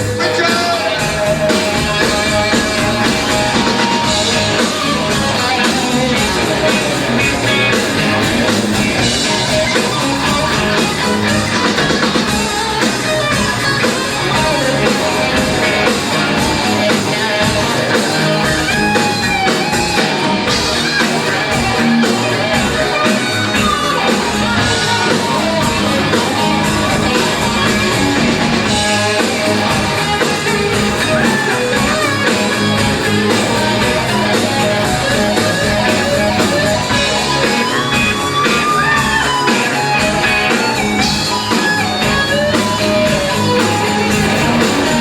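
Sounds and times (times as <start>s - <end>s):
drum kit: 0.0s - 45.0s
electric guitar: 0.0s - 45.0s.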